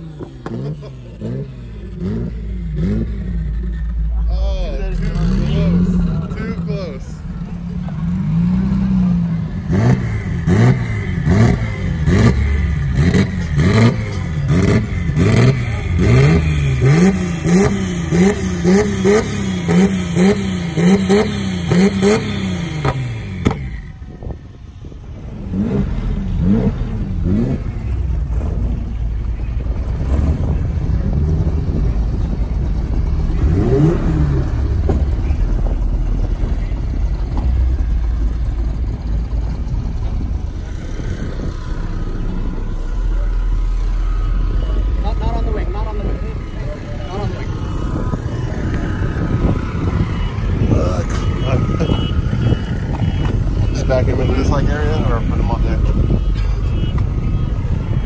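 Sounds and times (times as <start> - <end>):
car engine revving: 0.0 - 58.0
exhaust cracks: 0.0 - 58.0
low engine rumble: 0.0 - 58.0.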